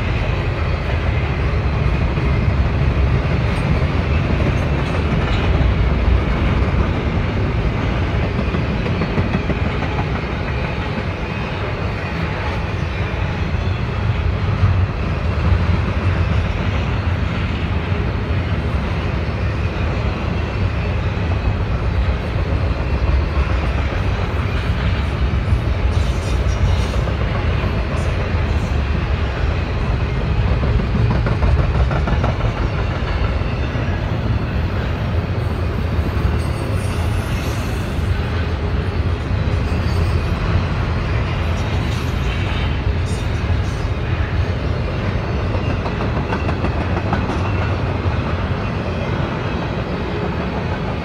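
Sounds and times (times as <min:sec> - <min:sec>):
freight train rolling past: 0:00.0 - 0:51.0.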